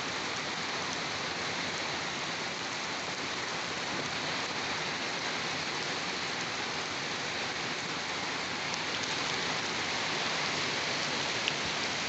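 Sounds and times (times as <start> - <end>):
rain pattering on a surface: 0.0 - 12.0.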